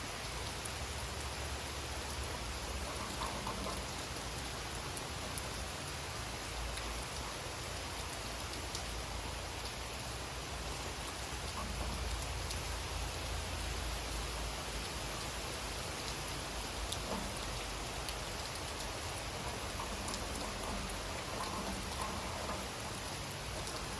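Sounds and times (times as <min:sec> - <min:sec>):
rain falling in forest: 0:00.0 - 0:23.9.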